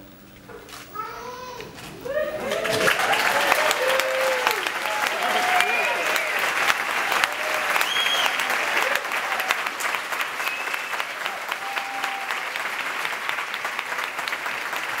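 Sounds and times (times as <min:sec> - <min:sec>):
calls from audience: 0:02.0 - 0:15.0
audience applauding: 0:02.1 - 0:15.0.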